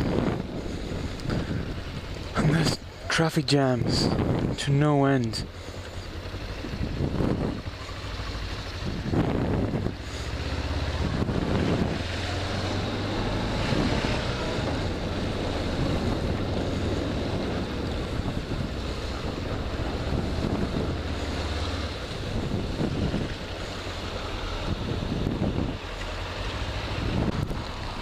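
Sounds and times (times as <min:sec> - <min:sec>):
motorcycle engine drone: 0:00.0 - 0:28.0
wind rushing over microphone: 0:00.0 - 0:28.0.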